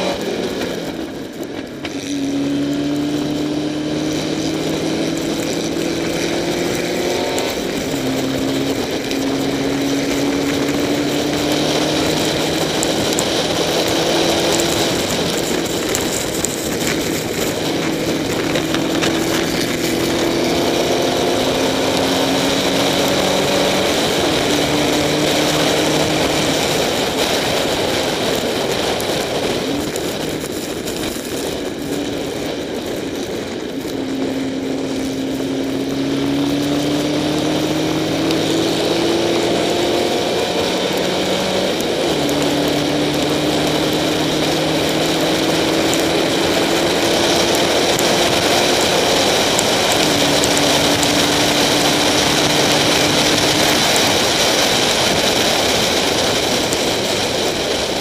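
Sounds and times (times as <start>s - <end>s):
race car engine revving: 0.0s - 58.0s
wind and rain spray hiss: 0.0s - 58.0s.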